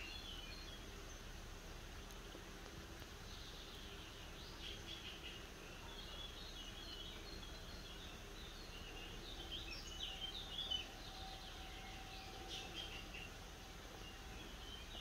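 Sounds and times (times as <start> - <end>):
low outdoor background noise: 0.0 - 15.0
small birds chirping: 0.0 - 15.0.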